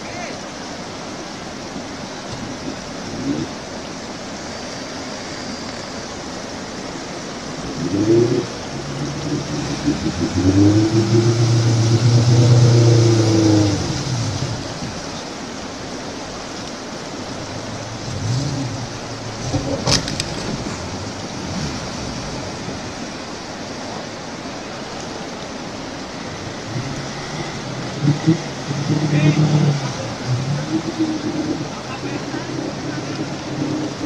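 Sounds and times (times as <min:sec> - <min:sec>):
river water rushing: 0:00.0 - 0:34.0
off-road vehicle engine revving: 0:02.4 - 0:03.8, 0:06.3 - 0:16.5, 0:17.1 - 0:34.0.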